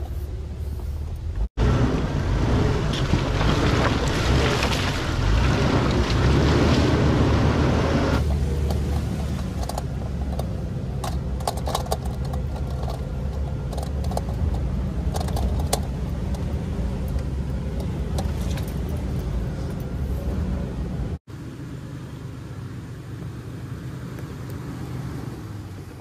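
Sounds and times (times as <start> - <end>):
vehicle clicks and rattles: 0.0 - 21.2
car engine running: 0.0 - 26.0.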